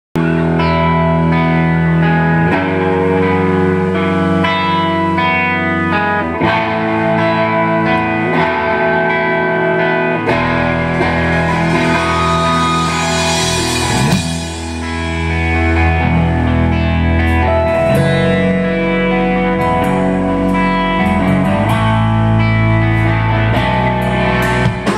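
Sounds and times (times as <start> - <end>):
bass guitar: 0.2 - 24.9
distorted electric guitars: 0.2 - 24.9
sliding guitar note: 0.2 - 24.9.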